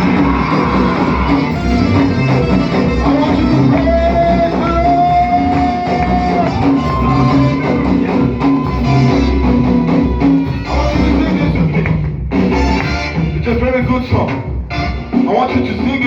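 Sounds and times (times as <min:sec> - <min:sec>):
live band with bass and guitar: 0:00.0 - 0:16.0.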